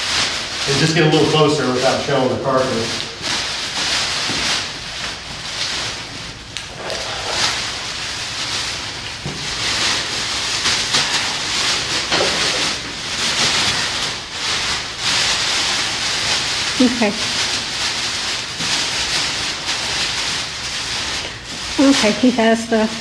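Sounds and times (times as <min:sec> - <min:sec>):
plastic garbage bag rustling: 0:00.0 - 0:23.0.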